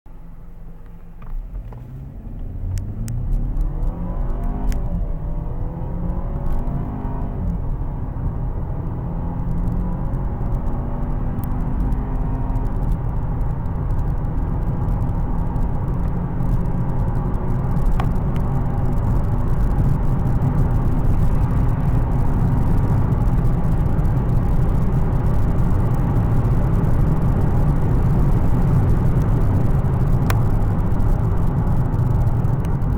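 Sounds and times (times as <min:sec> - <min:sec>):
road and wind noise: 0:00.1 - 0:32.9
car engine accelerating hard: 0:01.2 - 0:32.9.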